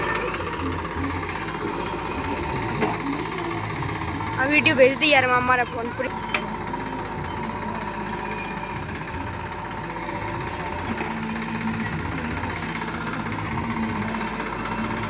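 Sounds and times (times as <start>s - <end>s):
diesel engine running: 0.0s - 15.0s
thin steady whine: 0.0s - 15.0s.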